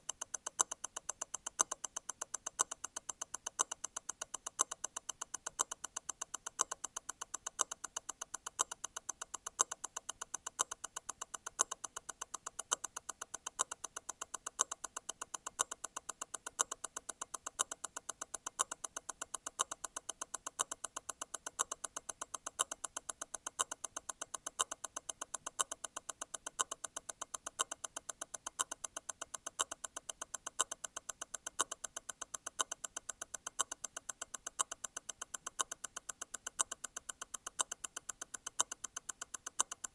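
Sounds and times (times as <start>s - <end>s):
watch ticking: 0.0s - 39.9s.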